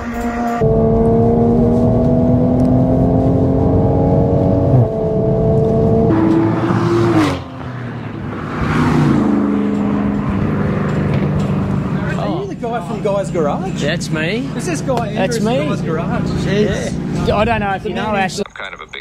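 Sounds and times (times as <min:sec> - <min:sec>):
car engine accelerating hard: 0:00.0 - 0:18.4.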